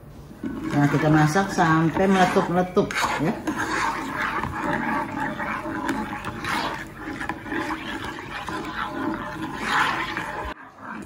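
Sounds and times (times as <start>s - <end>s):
spoon scraping a saucepan: 0.4s - 11.0s.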